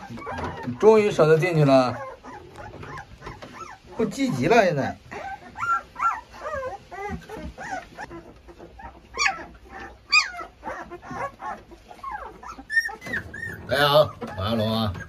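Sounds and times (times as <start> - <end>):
puppies whining and squealing: 0.0 - 15.0.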